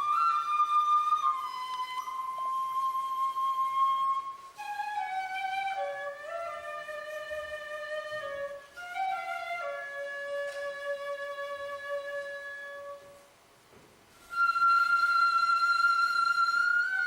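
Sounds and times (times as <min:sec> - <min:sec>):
flute playing held notes: 0:00.0 - 0:13.3, 0:14.2 - 0:17.0.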